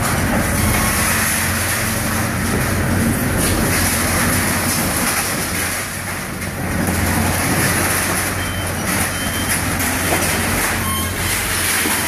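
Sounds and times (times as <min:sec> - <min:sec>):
excavator engine and hydraulics: 0:00.0 - 0:12.0.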